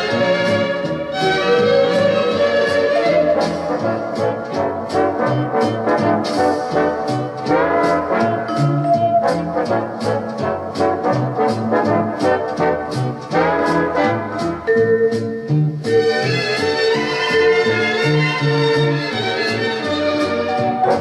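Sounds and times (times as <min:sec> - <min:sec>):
brass band playing: 0:00.0 - 0:21.0
trombone slides: 0:00.0 - 0:21.0.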